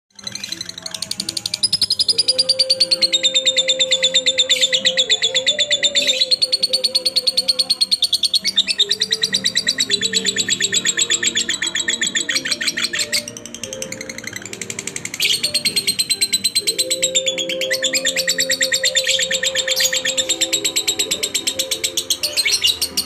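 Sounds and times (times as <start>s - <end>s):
bird chattering trill: 0.2s - 23.0s.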